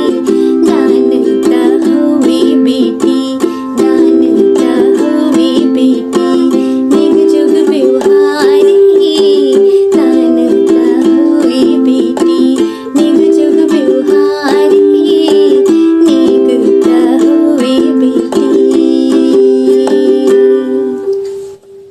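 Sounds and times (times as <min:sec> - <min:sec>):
ukulele strumming: 0:00.0 - 0:21.8.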